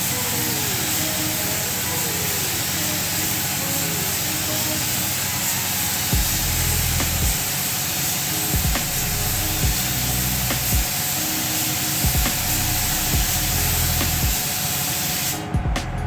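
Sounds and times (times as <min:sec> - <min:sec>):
faint music: 0:00.0 - 0:16.0
paint spray gun hissing: 0:00.0 - 0:16.0.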